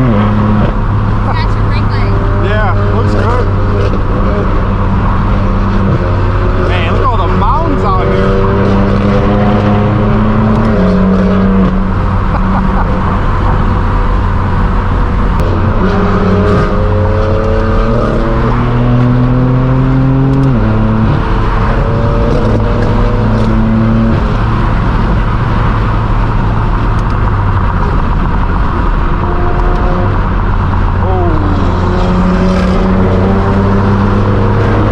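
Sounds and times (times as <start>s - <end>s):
loud car engine under way: 0.0s - 34.9s.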